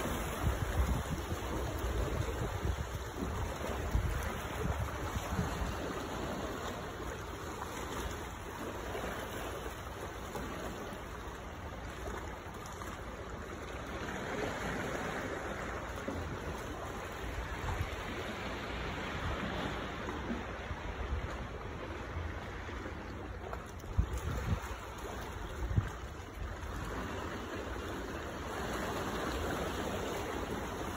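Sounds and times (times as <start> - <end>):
sea water sloshing among boulders: 0.0 - 30.9.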